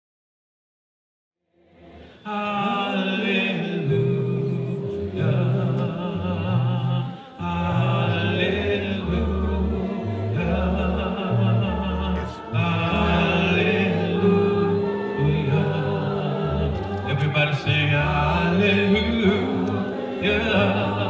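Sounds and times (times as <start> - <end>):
congregation singing a hymn: 1.6 - 21.0.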